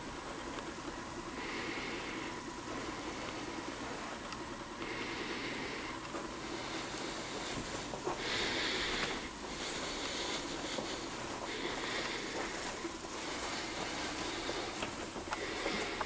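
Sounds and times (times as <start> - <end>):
room tone hiss: 0.0 - 16.0
thin high whine: 0.0 - 16.0.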